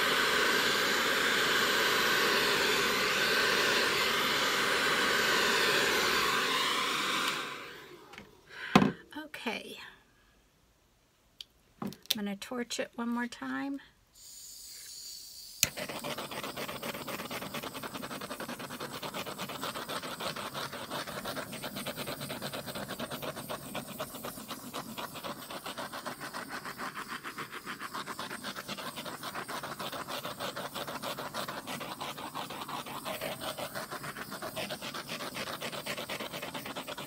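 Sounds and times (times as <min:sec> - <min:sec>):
gas torch flame hissing: 0:00.0 - 0:08.2, 0:14.2 - 0:37.0.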